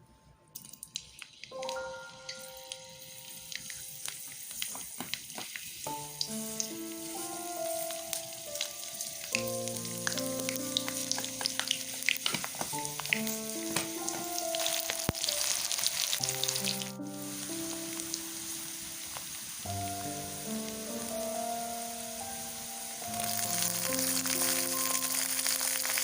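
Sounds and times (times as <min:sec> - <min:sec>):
soft background music: 0:00.0 - 0:04.7, 0:05.8 - 0:26.0
food sizzling in hot oil: 0:00.6 - 0:26.0.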